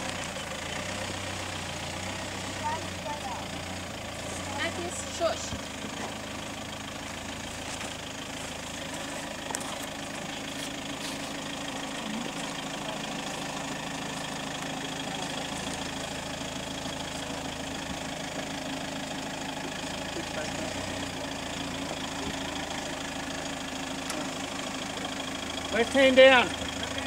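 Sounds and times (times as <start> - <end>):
engine running at low revs: 0.0 - 27.0.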